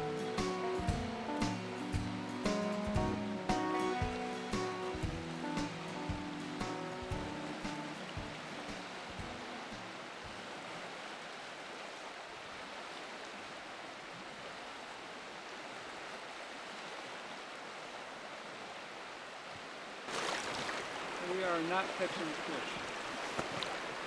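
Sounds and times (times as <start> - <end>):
river water rushing over rapids: 0.0 - 24.0.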